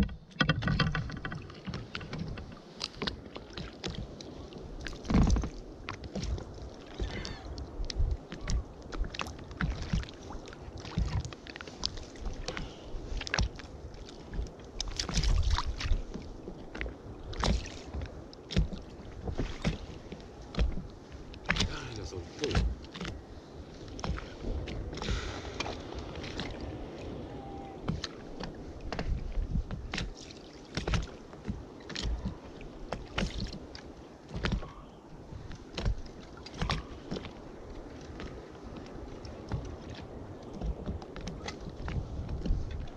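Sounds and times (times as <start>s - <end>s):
water splashing beside boat: 0.0s - 42.9s
wind rumbling on microphone: 0.0s - 42.9s.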